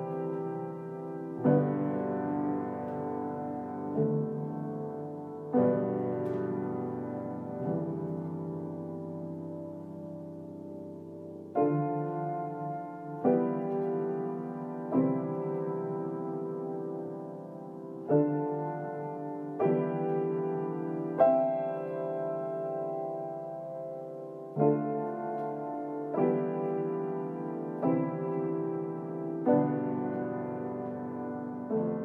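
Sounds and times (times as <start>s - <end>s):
slow gentle piano chords: 0.0s - 32.0s.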